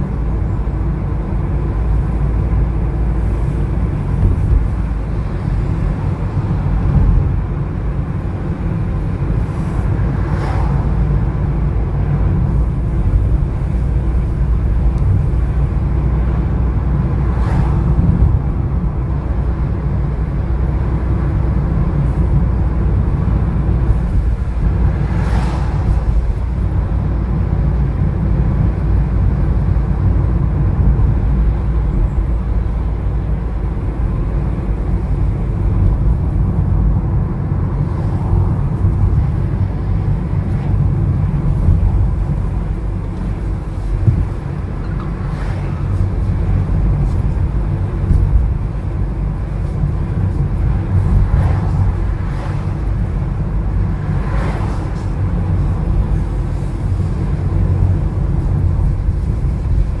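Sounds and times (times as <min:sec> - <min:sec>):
car engine and road rumble: 0:00.0 - 1:00.0.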